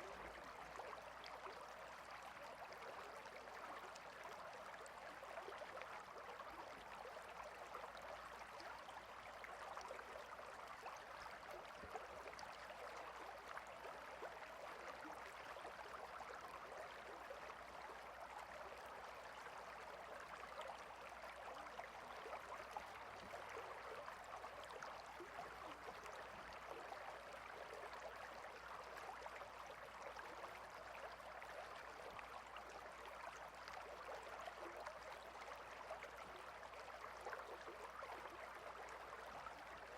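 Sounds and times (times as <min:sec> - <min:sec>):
water stream babbling: 0:00.0 - 0:39.9.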